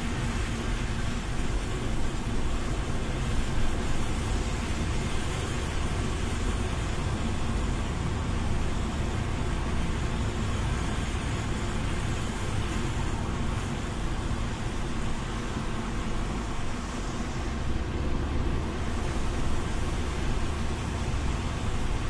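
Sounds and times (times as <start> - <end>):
car road and engine rumble: 0.0 - 22.0
tyres hissing on wet road: 0.0 - 22.0.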